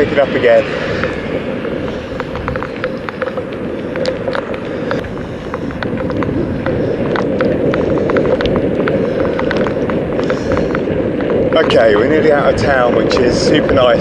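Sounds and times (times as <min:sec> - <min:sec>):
bicycle tyre rumble: 0:00.0 - 0:14.0
bicycle clicks and rattles: 0:00.8 - 0:14.0.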